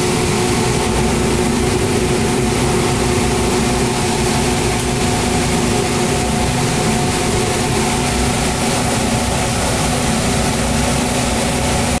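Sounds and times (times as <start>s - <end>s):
fan whirring hum: 0.0s - 12.0s.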